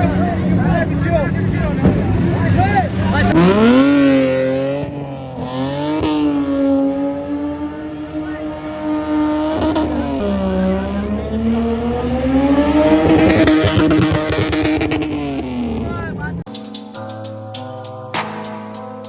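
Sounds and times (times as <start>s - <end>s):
car engine revving hard: 0.0s - 15.9s.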